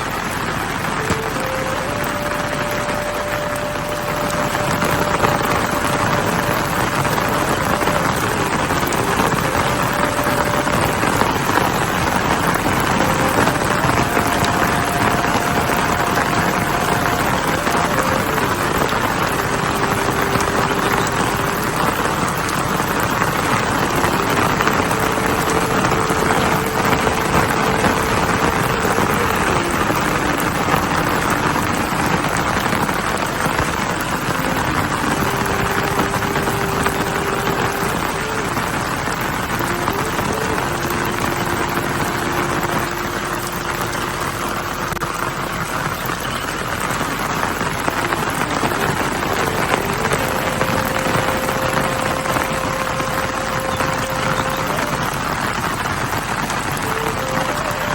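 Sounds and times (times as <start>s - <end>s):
faint held tone shifting pitch: 0.0s - 57.9s
heavy rain falling: 0.0s - 57.9s.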